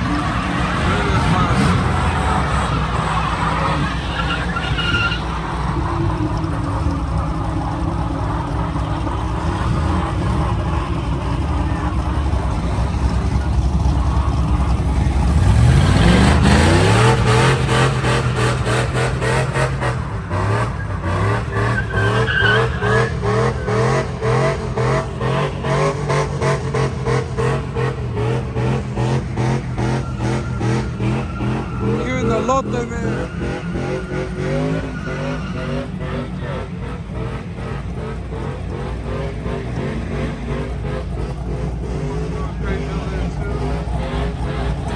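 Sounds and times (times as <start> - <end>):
truck engine revving: 0.0 - 44.9
tyres skidding: 0.0 - 44.9.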